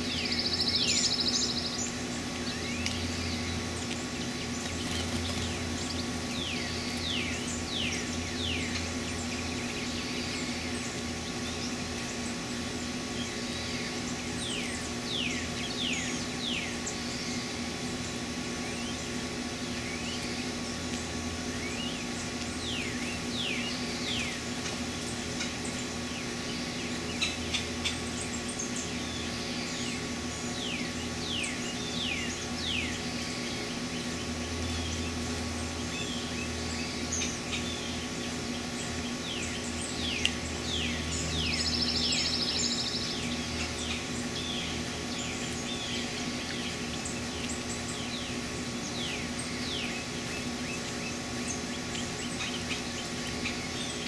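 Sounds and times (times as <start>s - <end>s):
buzzy bird trill: 0.0s - 54.0s
songbirds chirping: 0.0s - 54.0s
steady low hum: 0.0s - 54.0s.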